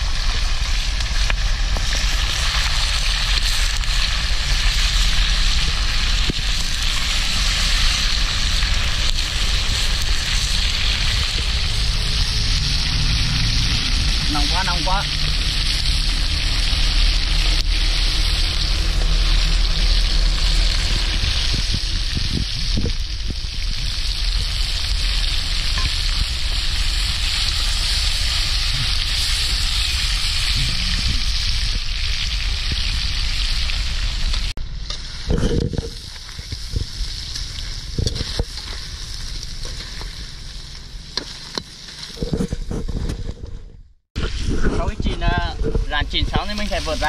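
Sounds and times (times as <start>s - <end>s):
shrimp sizzling in hot oil: 0.0s - 42.6s, 45.9s - 47.0s.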